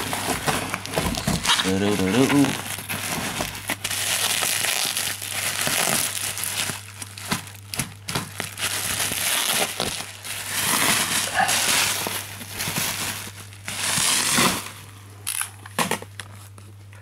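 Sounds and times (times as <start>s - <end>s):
cardboard and tape tearing: 0.0s - 16.0s.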